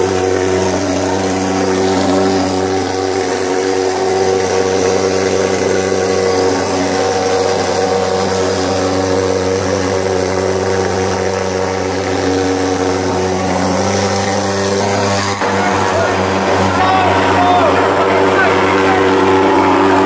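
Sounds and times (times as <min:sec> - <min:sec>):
pulse-jet engine droning: 0:00.0 - 0:20.0.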